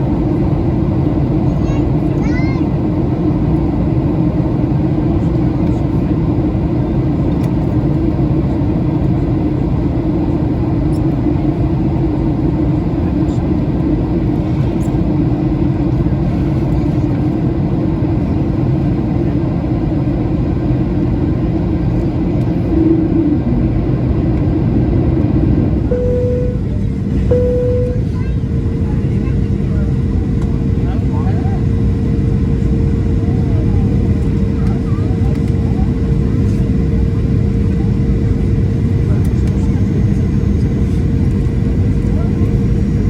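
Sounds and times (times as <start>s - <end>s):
airplane cabin engine drone: 0.0s - 43.0s.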